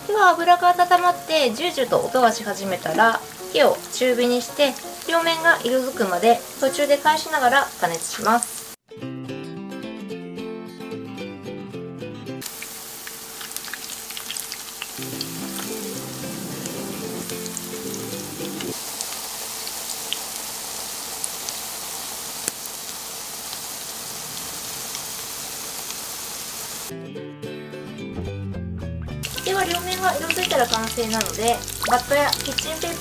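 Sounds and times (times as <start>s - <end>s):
patties sizzling in oil: 0.1s - 8.8s, 12.4s - 26.9s, 29.2s - 33.0s.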